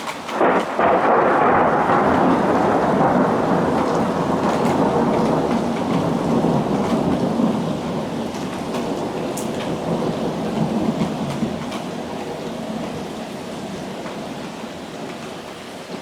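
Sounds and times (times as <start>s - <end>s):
heavy rain: 0.0s - 16.0s
thunder rumble: 0.3s - 16.0s.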